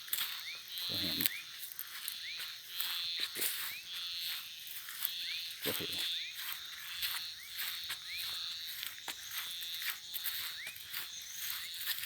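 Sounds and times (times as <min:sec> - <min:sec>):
insects buzzing: 0:00.0 - 0:12.0
frog calling: 0:00.3 - 0:11.9.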